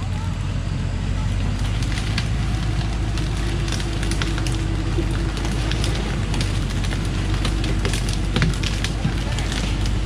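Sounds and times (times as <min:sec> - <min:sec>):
branches crackling under tyres: 0:00.0 - 0:10.0
diesel truck engine running: 0:00.0 - 0:10.0.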